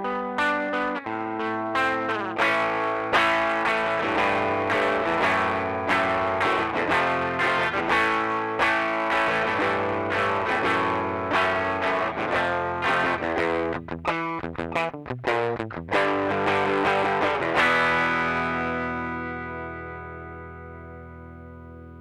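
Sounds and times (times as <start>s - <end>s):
overdriven electric guitar chords: 0.0s - 22.0s.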